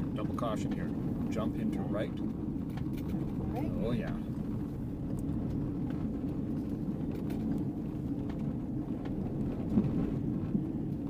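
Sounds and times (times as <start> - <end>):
car rumbling on gravel: 0.0 - 11.0.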